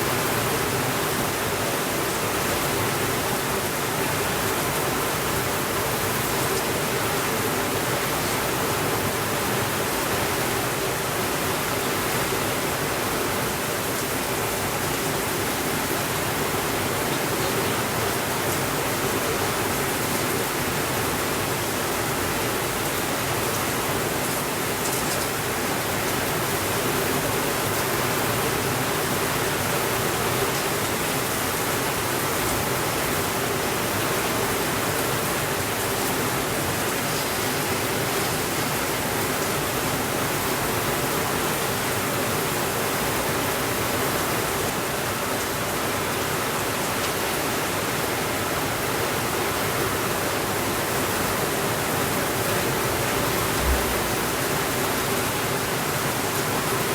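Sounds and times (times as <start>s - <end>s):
steady rainfall: 0.0s - 56.9s.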